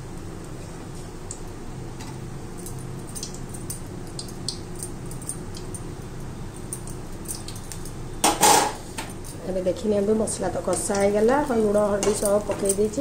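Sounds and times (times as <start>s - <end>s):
food frying in a pan: 0.0s - 13.0s.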